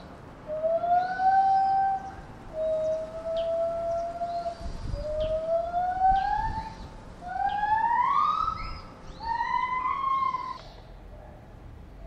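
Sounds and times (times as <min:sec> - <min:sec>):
chimpanzee calling: 0:00.5 - 0:10.8.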